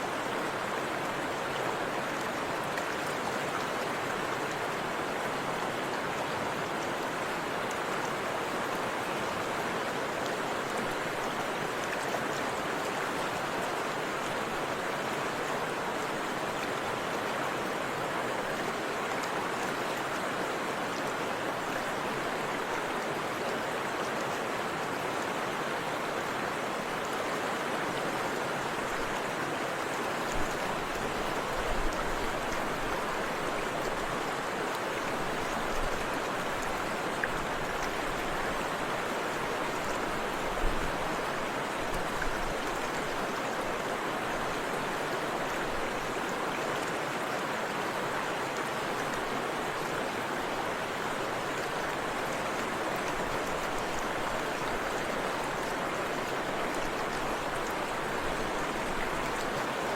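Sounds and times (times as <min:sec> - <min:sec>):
river and waterfall rushing: 0:00.0 - 0:59.9.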